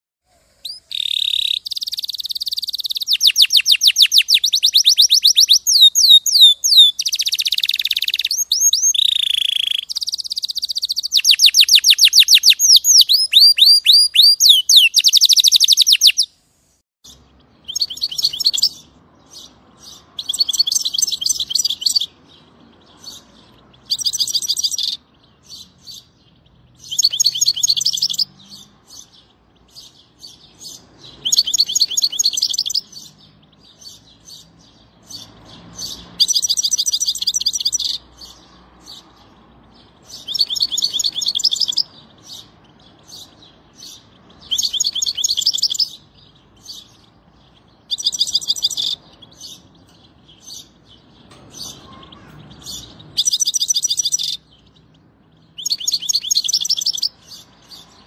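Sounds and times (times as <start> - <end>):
songbird singing trills: 0.3 - 58.0.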